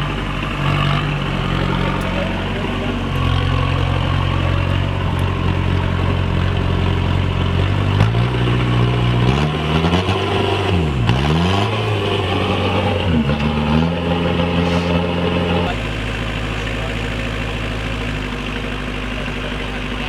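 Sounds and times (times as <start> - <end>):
diesel engine running and revving: 0.0 - 20.0.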